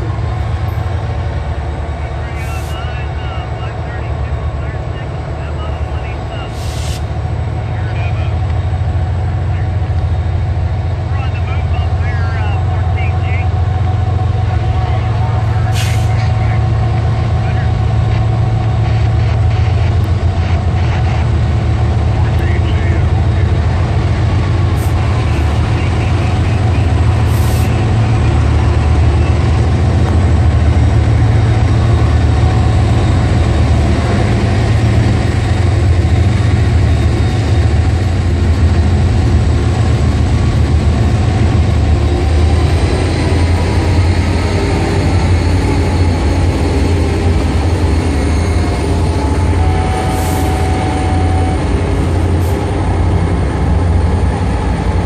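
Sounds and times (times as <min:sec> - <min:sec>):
diesel locomotive engines rumbling: 0:00.0 - 0:55.0
train wheel and rail noise: 0:00.0 - 0:55.0.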